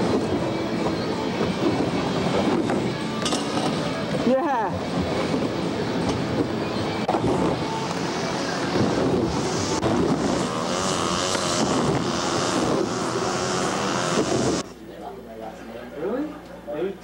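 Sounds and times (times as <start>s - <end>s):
background music: 0.0s - 14.6s.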